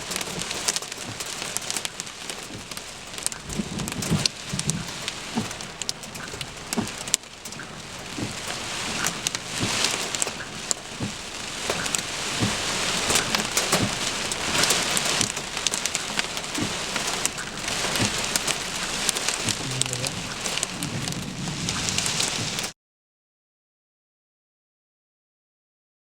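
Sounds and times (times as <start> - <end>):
heavy rain: 0.0 - 22.8.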